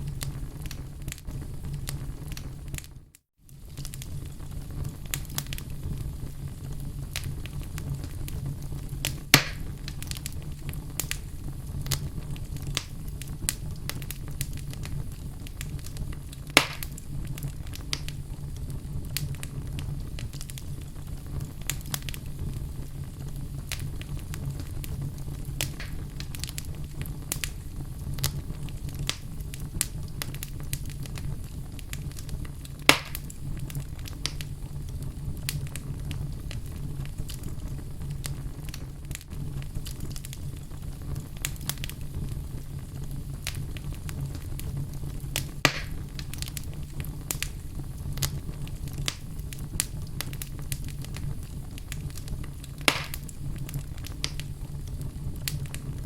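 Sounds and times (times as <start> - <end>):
loud fire pops: 0.0 - 56.0
wood fire crackling: 0.0 - 56.0.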